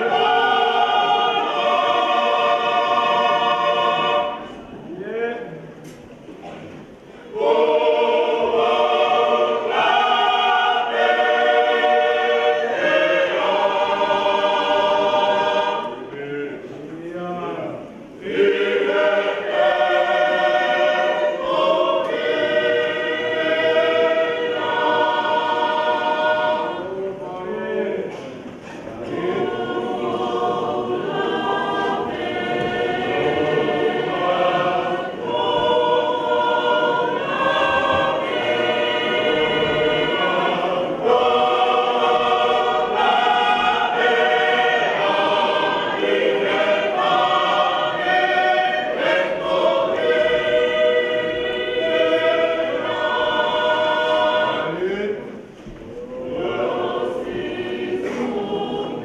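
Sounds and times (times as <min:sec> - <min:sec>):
choir singing a hymn: 0:00.0 - 0:05.5, 0:06.2 - 0:16.9, 0:17.6 - 0:59.0.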